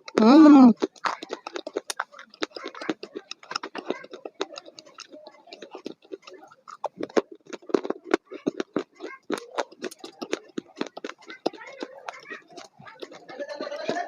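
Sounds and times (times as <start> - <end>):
food being chewed: 0.0 - 14.0.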